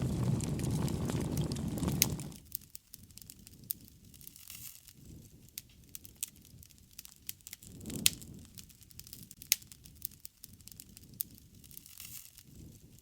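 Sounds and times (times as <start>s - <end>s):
campfire crackling and popping: 0.0s - 13.0s
low rush of flame: 0.0s - 13.0s.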